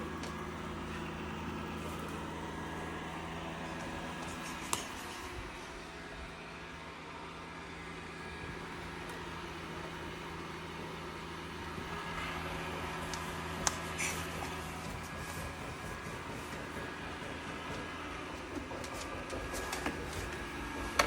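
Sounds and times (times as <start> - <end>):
robot vacuum motor hum: 0.0 - 21.0.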